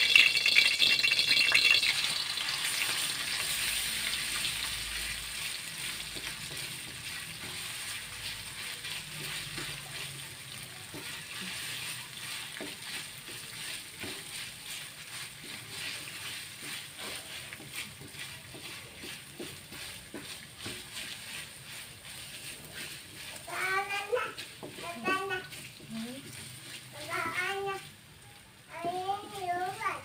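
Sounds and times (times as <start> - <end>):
paste sizzling in hot oil: 0.0 - 30.0
wooden spatula scraping wok: 0.1 - 30.0.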